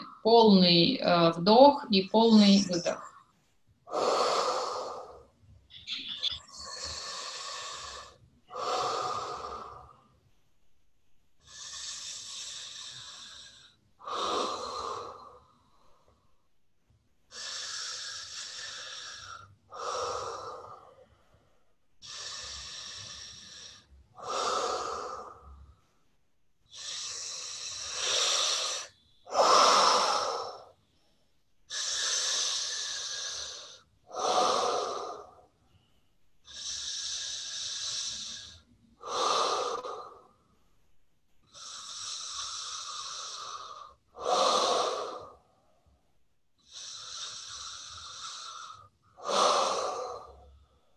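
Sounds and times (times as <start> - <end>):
woman breathing deeply through mouth: 3.9 - 5.3, 6.4 - 10.2, 11.4 - 16.4, 17.3 - 25.9, 26.7 - 40.7, 41.5 - 45.8, 46.6 - 50.9.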